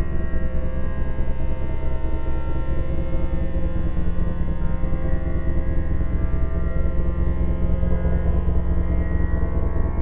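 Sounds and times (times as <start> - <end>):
eerie ambient drone: 0.0 - 10.0.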